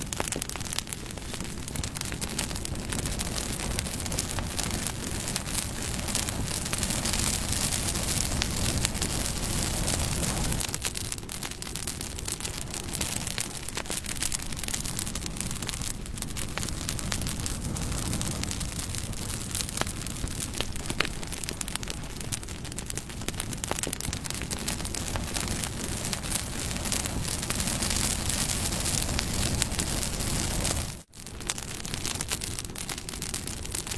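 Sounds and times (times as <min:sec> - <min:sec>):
bonfire flames rushing: 0:00.0 - 0:33.9
fire crackling: 0:00.0 - 0:33.9
wood popping: 0:00.0 - 0:33.9.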